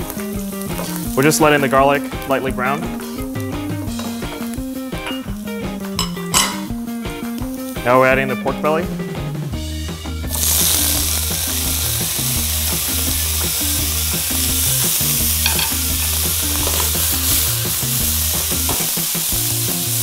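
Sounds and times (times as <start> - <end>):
meat sizzling in hot oil: 0.0 - 8.2, 9.3 - 20.0.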